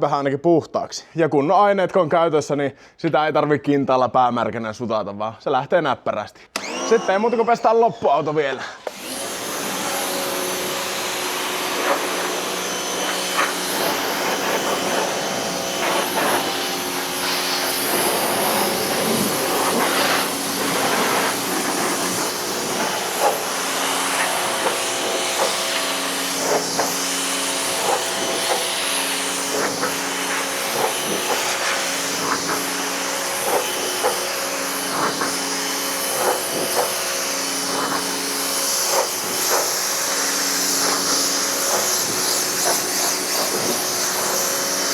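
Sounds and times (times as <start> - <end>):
pressure washer machine hum: 6.6 - 7.5, 8.7 - 44.9
pressure washer jet hissing: 6.6 - 44.9.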